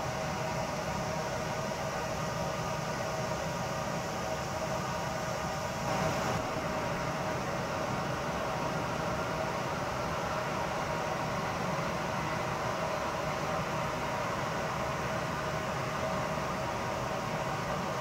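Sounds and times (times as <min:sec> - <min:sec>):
town background hum and hiss: 0:00.0 - 0:18.0.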